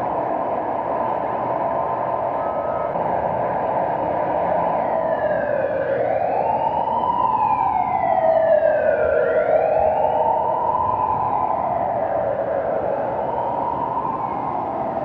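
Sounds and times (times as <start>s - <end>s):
city traffic noise: 0.0s - 15.0s
police siren wailing: 0.0s - 15.0s.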